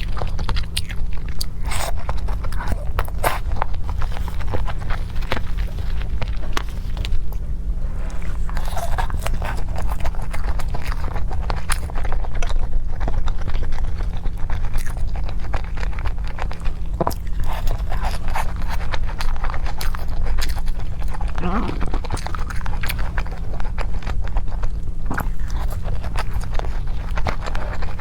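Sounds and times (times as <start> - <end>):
person chewing crunchy food: 0.0 - 28.0
steady low hum: 0.0 - 28.0.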